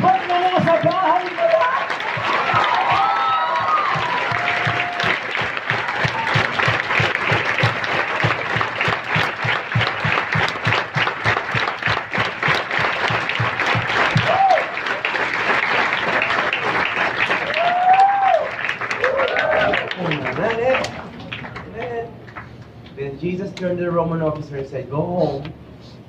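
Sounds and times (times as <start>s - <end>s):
crowd clapping: 0.0s - 23.0s.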